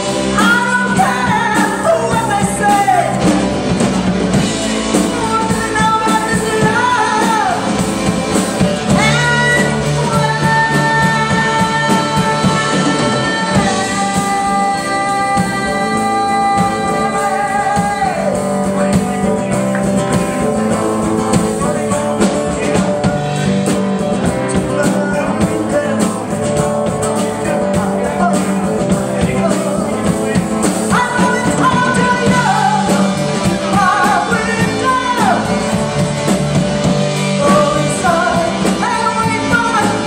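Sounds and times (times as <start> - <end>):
held lead guitar notes: 0.0 - 40.0
rock band playing: 0.0 - 40.0.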